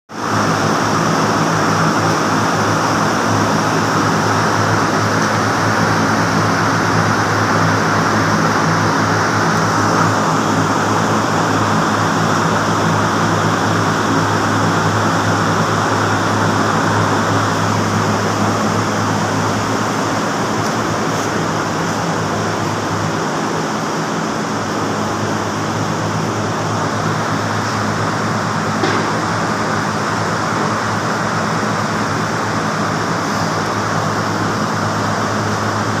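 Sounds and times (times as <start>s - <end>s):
diesel generator running: 0.2s - 36.0s.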